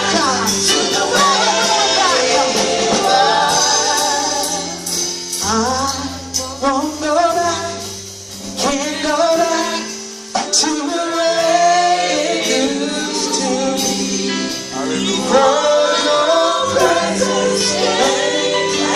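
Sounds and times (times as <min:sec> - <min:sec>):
gospel choir singing: 0:00.0 - 0:18.9
instrumental accompaniment: 0:00.0 - 0:18.9.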